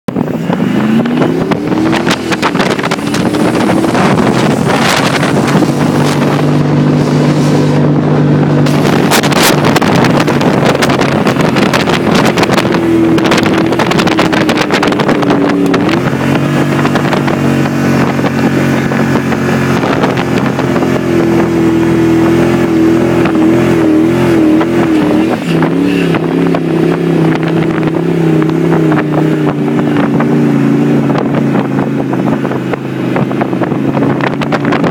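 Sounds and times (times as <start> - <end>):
jeep engine running hard: 0.1 - 34.9.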